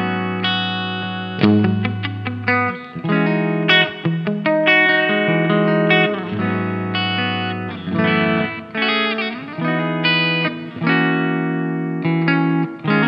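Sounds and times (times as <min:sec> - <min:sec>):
clean electric guitar chords: 0:00.0 - 0:13.0.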